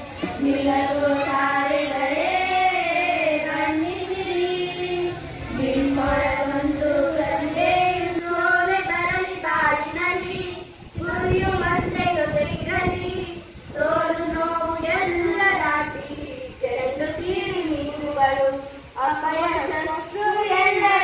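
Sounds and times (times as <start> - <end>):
girls singing into a microphone: 0.0 - 21.0.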